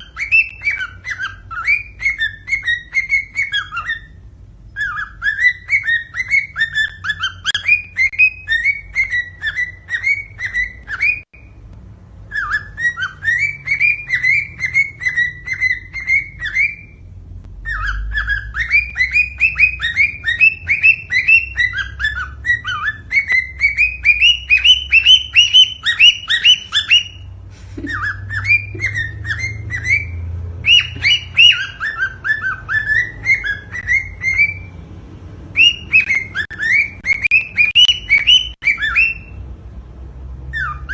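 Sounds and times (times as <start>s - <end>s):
cockatiel chirping whistles: 0.0s - 11.6s, 12.3s - 17.0s, 17.6s - 34.7s, 35.5s - 39.4s, 40.5s - 40.9s.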